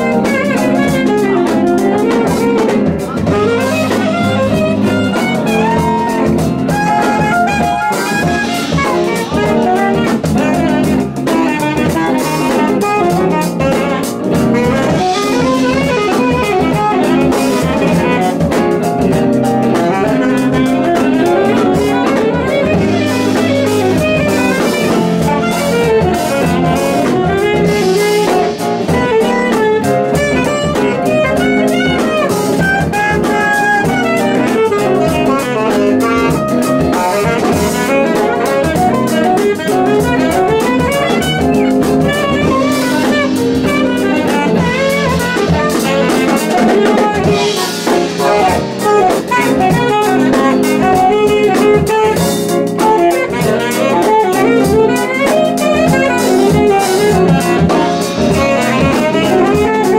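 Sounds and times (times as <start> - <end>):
drum kit with cymbals: 0.0 - 59.9
electric bass: 0.0 - 59.9
electric guitars: 0.0 - 59.9
saxophone: 0.0 - 59.9.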